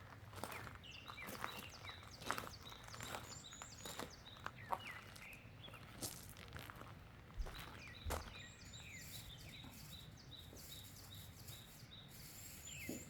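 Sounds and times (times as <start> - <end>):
small birds chirping: 0.5 - 6.0, 7.5 - 13.0.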